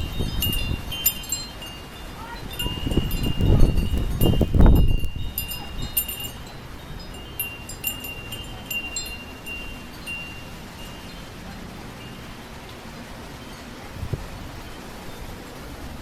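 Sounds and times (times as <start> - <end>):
wind chimes ringing: 0.0 - 15.9
low rumble of wind: 0.0 - 16.0.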